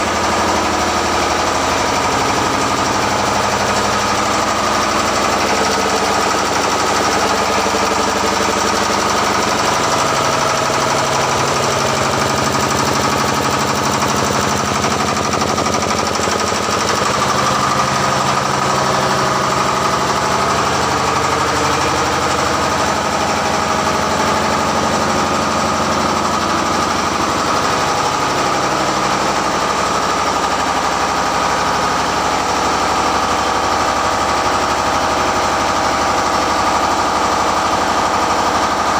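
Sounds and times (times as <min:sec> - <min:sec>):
high machinery whine: 0:00.0 - 0:38.9.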